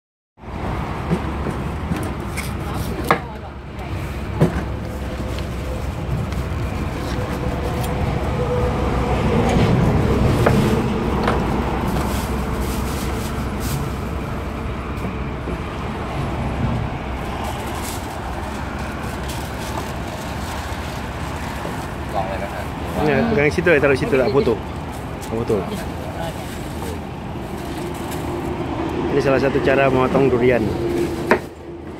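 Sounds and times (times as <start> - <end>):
road traffic rumble: 0.4 - 31.9.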